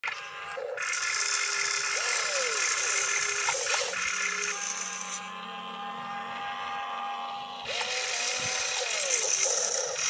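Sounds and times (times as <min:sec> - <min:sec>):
toy excavator motors whirring: 0:00.0 - 0:10.0.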